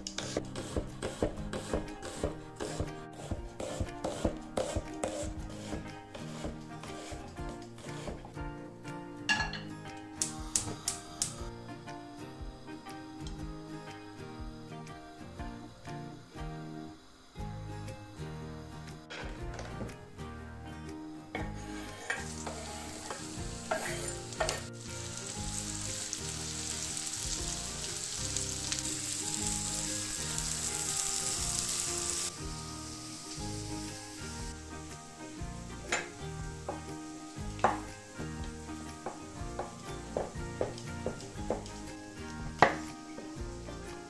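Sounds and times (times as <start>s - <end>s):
onion sizzling in butter: 0.0s - 8.4s, 9.3s - 19.1s, 21.3s - 44.0s.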